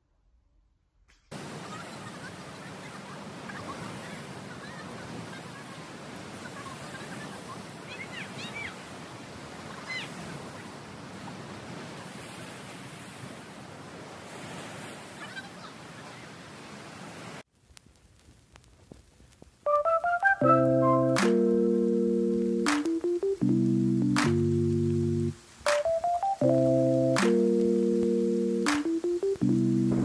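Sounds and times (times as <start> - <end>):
ocean surf on rocks: 1.3 - 17.5, 22.1 - 30.0.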